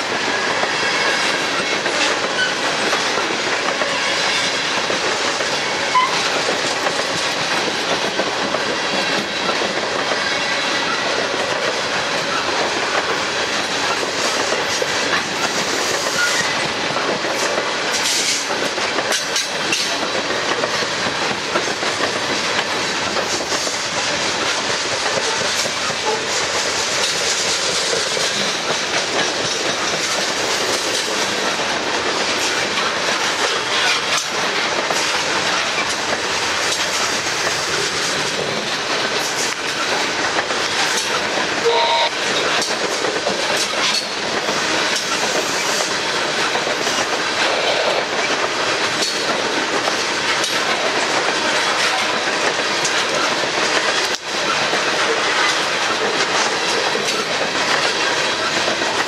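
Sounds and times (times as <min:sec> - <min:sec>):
clacks of wheels over rails: 0:00.0 - 0:59.0.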